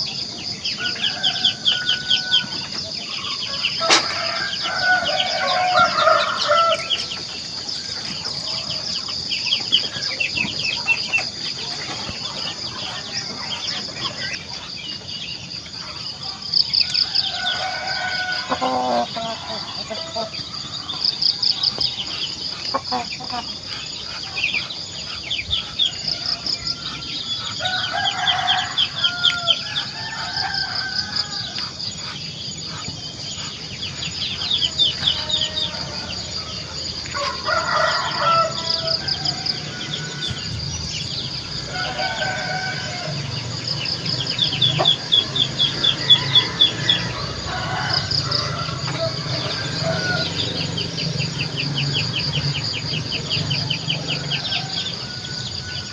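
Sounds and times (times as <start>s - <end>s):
chickens crowing and clucking: 0.0s - 55.9s
small birds chirping trills: 0.0s - 55.9s.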